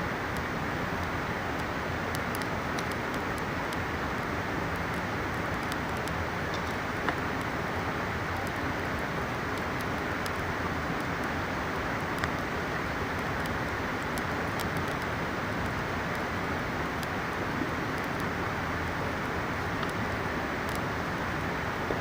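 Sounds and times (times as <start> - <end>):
campfire crackling and popping: 0.1 - 22.0.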